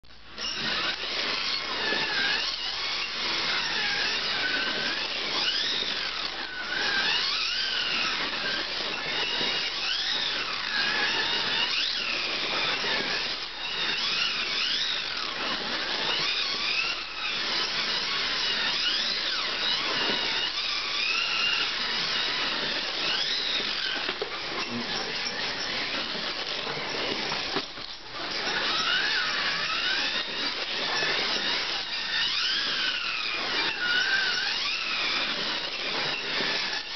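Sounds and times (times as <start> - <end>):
slot car motors whining: 0.2 - 36.9
running gear hissing on track: 0.4 - 36.9.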